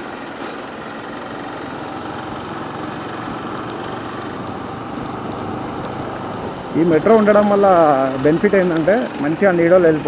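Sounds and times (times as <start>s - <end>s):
motorcycle engine running: 0.0s - 10.0s
road and traffic noise: 0.0s - 10.0s.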